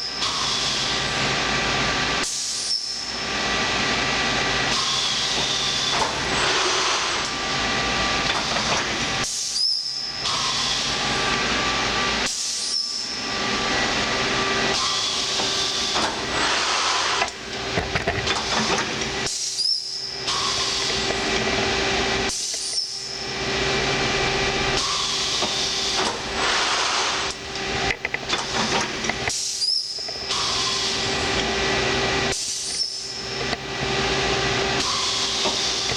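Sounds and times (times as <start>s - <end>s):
machine running noise: 0.0s - 35.9s.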